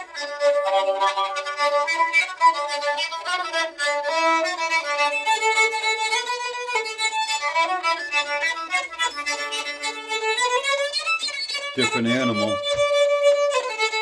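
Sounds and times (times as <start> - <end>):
fiddle melody: 0.0 - 14.0.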